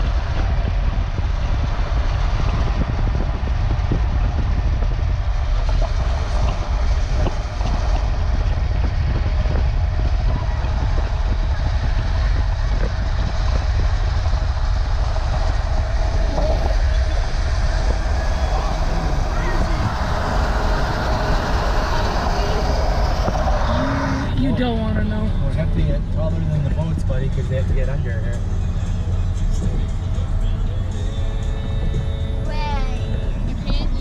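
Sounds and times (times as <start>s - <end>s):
moving vehicle rumble: 0.0s - 34.0s.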